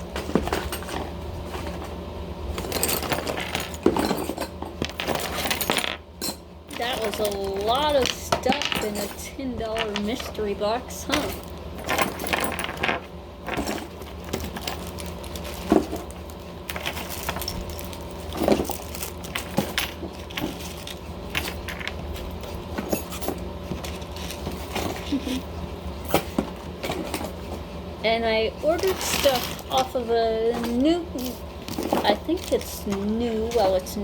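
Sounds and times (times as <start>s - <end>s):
steady low hum: 0.0s - 34.0s
jewellery clinking: 2.6s - 25.4s, 28.6s - 34.0s.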